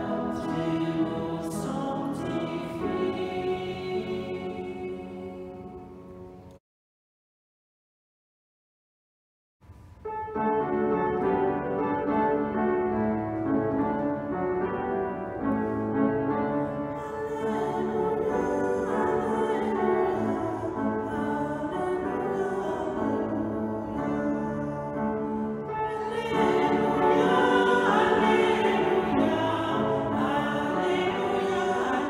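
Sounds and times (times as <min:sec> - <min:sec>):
slow classical music: 0:00.0 - 0:06.6, 0:09.6 - 0:32.0.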